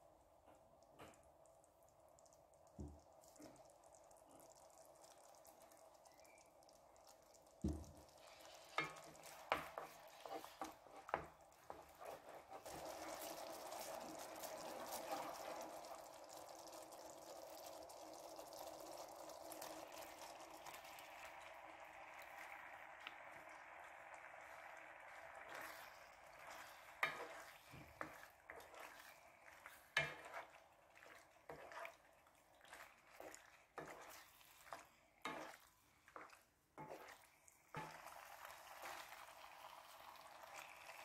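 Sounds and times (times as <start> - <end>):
sauce sizzling and bubbling: 0.0 - 41.0
stirring in a pan: 0.1 - 41.0.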